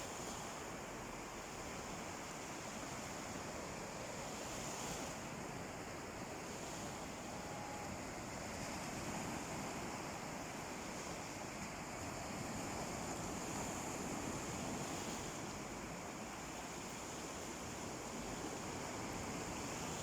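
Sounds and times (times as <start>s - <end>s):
sea waves washing onto beach: 0.0s - 20.0s.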